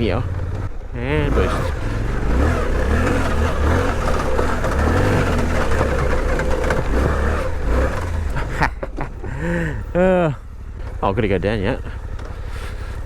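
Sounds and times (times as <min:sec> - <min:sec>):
motorcycle engine pulling uphill: 0:00.0 - 0:13.0.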